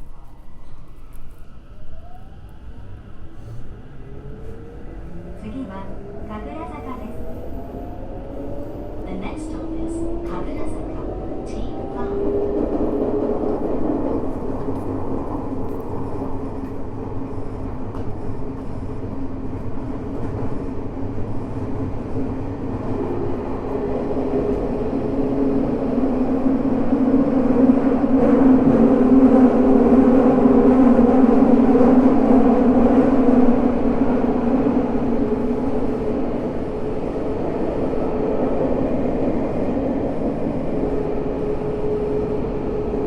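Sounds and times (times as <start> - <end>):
subway train wheel and motor noise: 0.0 - 43.0.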